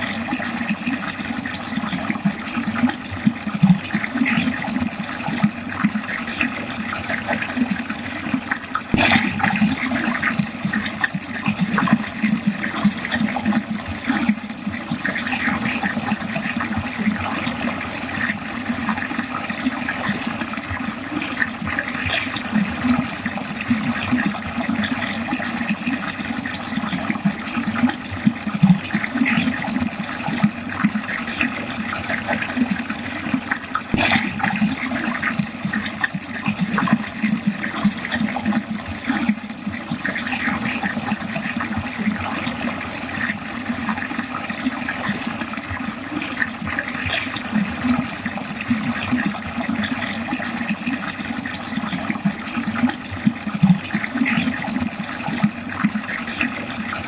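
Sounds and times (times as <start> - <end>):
water draining down a drain: 0.0 - 57.0.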